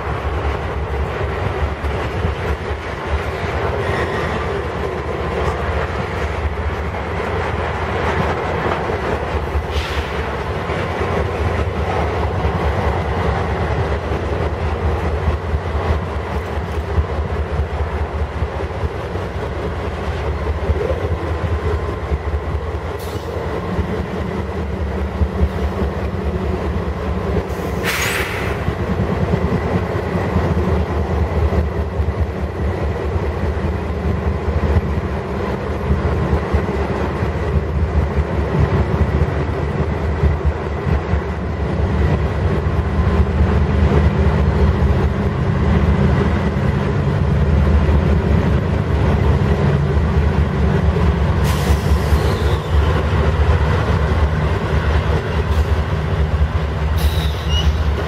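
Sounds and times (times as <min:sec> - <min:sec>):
diesel locomotive engine drone: 0:00.0 - 0:58.0
freight cars rumbling and clattering: 0:00.0 - 0:58.0.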